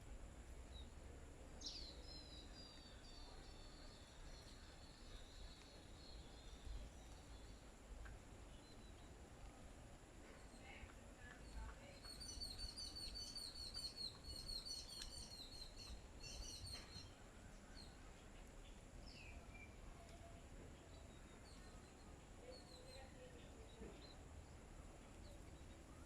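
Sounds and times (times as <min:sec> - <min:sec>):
bird chirping: 0:01.6 - 0:07.8, 0:08.4 - 0:09.6, 0:10.2 - 0:26.0.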